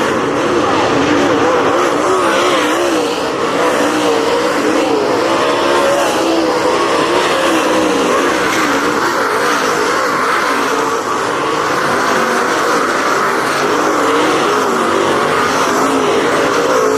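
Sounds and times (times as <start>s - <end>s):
race car engines: 0.0s - 16.9s.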